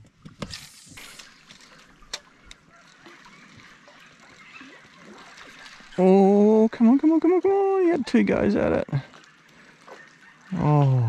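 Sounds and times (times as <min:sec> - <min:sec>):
water lapping and trickling: 0:00.0 - 0:11.0.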